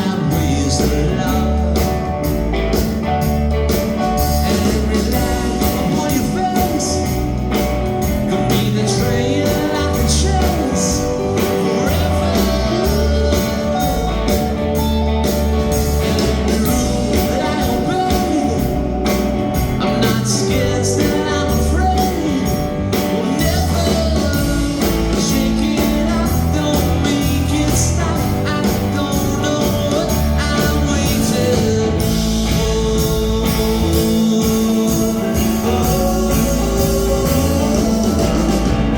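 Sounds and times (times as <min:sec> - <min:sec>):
electric guitar lead melody: 0:00.0 - 0:38.9
live rock band playing: 0:00.0 - 0:38.9.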